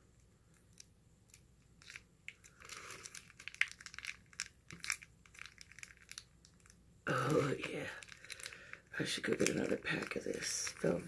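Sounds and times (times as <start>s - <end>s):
cheese sauce packet crinkling: 0.8s - 11.0s.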